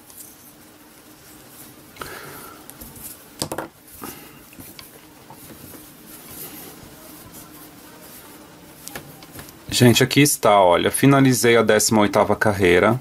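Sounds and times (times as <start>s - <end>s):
yarn rustling: 0.0s - 13.0s.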